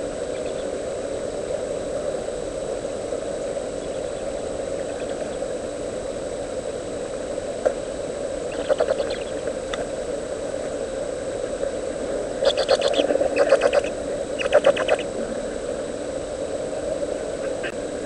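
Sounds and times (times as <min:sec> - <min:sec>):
microphone hum and hiss: 0:00.0 - 0:18.0
thin high whine: 0:00.0 - 0:18.0.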